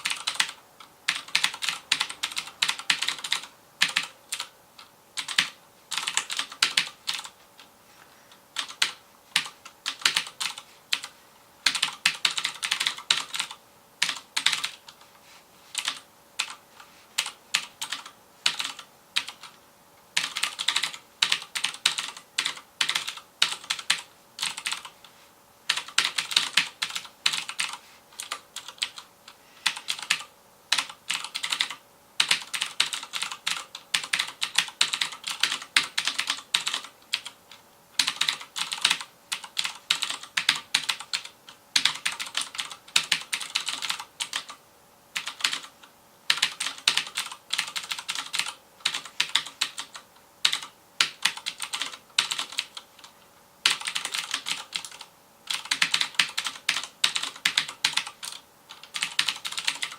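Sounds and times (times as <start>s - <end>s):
clicky mechanical keyboard typing: 0.0s - 7.7s, 8.6s - 15.0s, 15.7s - 16.6s, 17.2s - 19.6s, 20.2s - 24.9s, 25.7s - 44.6s, 45.2s - 59.9s.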